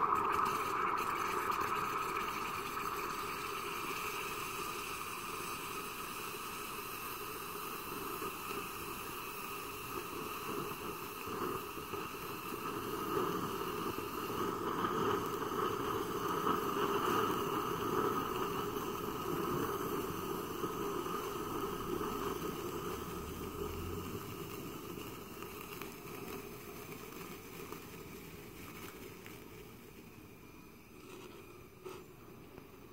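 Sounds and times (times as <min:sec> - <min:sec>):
sparkler fizzing under water: 0:00.0 - 0:32.9.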